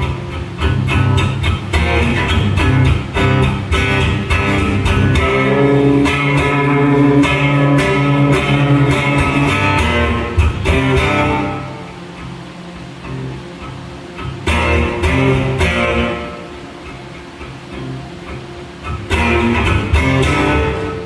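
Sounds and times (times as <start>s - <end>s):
guitar strummed chords: 0.0s - 21.0s.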